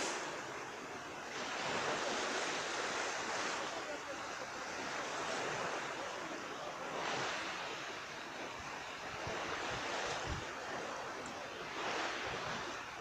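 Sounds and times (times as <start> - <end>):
sea surf washing onto beach: 0.0 - 13.0.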